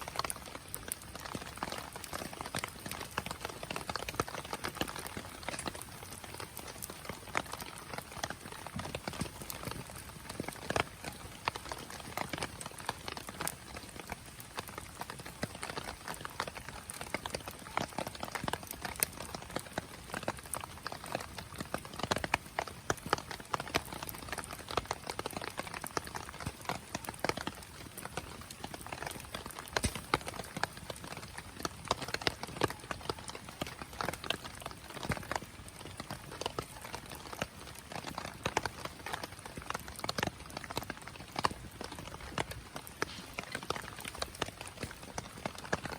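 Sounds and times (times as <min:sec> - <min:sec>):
low steady hiss: 0:00.0 - 0:45.9
wood fire crackling: 0:00.0 - 0:45.9.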